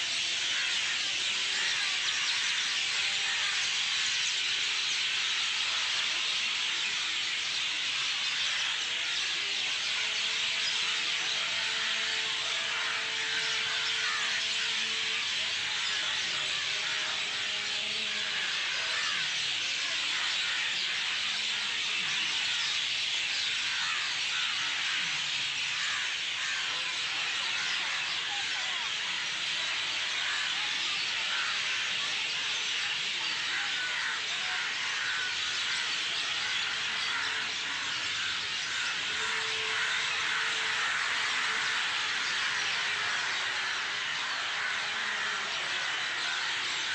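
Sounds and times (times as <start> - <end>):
flock of birds chirping: 0.0 - 46.9.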